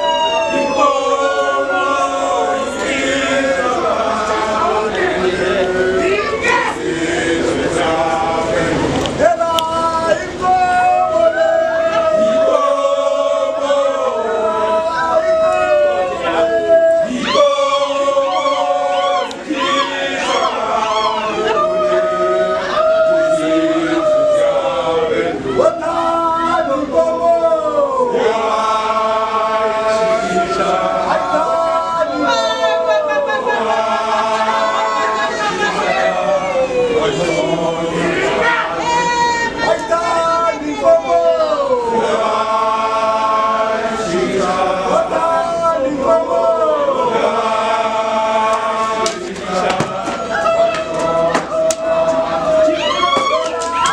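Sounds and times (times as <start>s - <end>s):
group chanting and singing: 0.0s - 53.9s.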